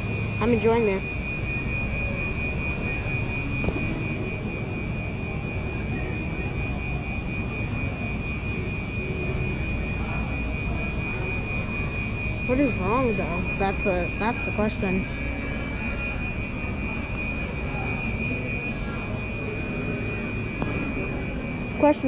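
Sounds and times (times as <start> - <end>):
fire alarm horn: 0.0 - 22.0.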